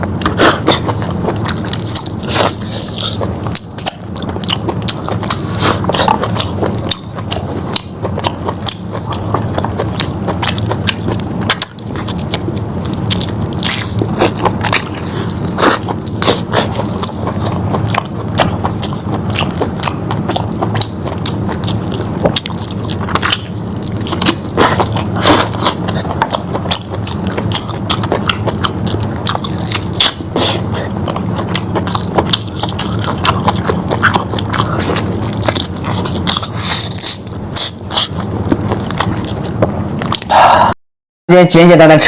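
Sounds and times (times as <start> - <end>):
meat being chewed: 0.0 - 40.6.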